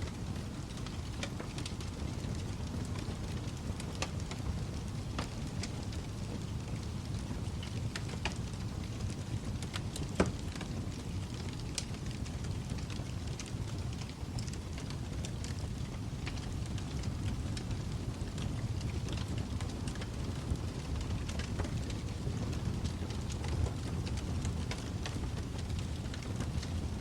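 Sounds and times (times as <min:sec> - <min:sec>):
fire crackles and pops: 0:00.0 - 0:27.0
fire flames rumbling: 0:00.0 - 0:27.0.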